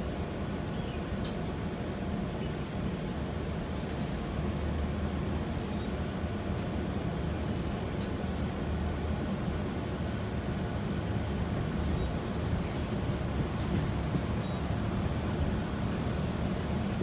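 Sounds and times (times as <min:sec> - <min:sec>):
bus rumbling on wet road: 0:00.0 - 0:17.0.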